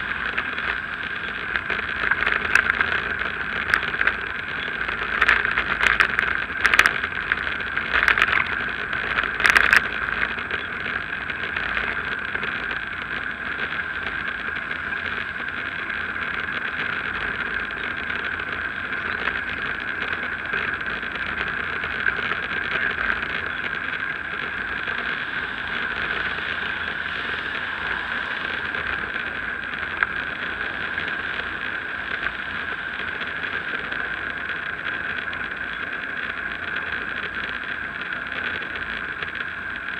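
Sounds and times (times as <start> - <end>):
bicycle rolling on path: 0.0 - 39.9.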